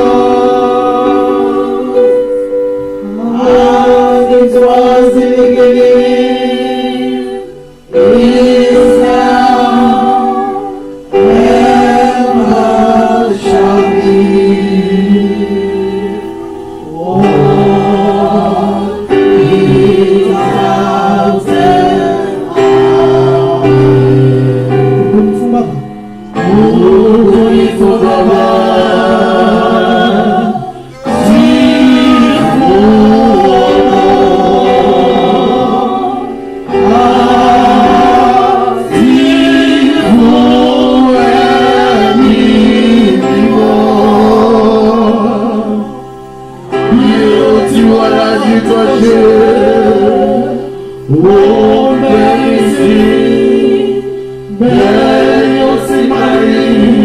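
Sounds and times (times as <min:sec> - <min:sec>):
choir and congregation singing: 0:00.0 - 0:57.0.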